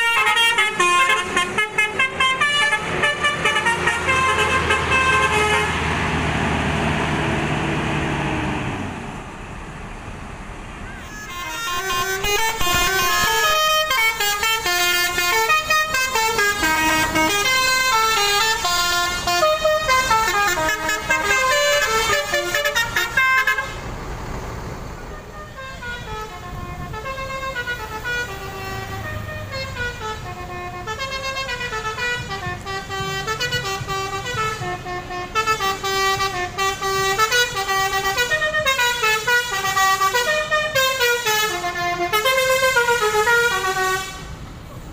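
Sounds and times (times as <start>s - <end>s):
bus horns playing melodies: 0.0s - 7.6s, 10.9s - 24.0s, 25.0s - 44.6s.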